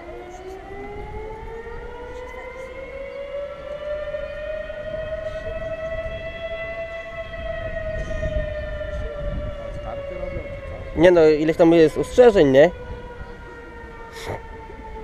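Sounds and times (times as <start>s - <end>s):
warning siren winding up: 0.0s - 15.0s.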